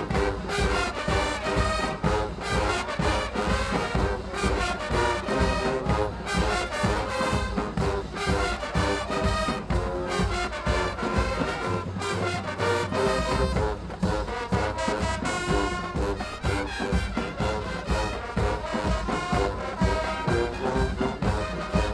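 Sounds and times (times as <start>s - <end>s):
brass instruments: 0.0s - 21.9s
steady drum beat: 0.0s - 21.9s.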